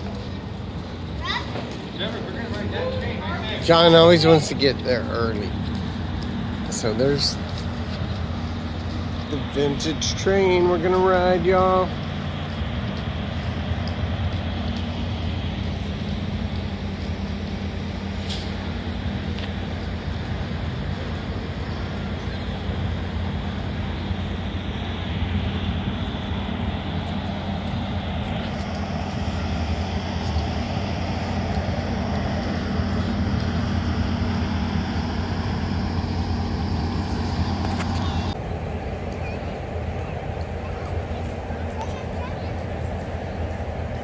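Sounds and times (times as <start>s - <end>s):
train diesel engine humming: 0.0s - 44.0s.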